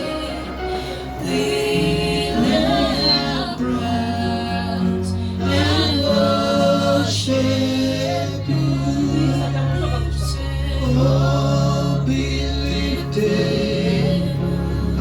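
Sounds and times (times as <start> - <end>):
group singing gospel song: 0.0 - 15.0
low musical accompaniment: 0.0 - 15.0.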